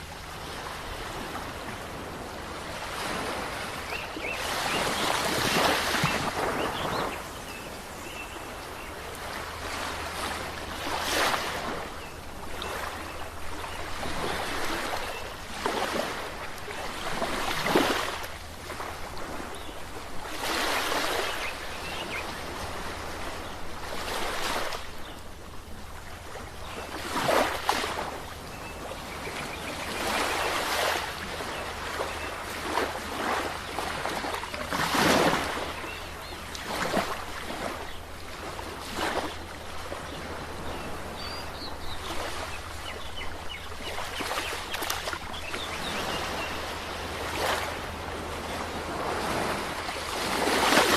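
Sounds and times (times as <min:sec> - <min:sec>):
sea waves breaking on shore: 0:00.0 - 0:50.9.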